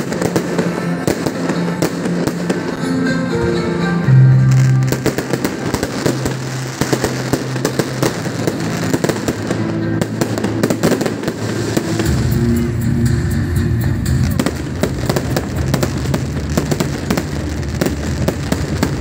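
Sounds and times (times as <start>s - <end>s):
fireworks crackling and banging: 0.0s - 3.6s, 4.3s - 13.4s, 14.0s - 19.0s
music with long held notes: 0.0s - 19.0s.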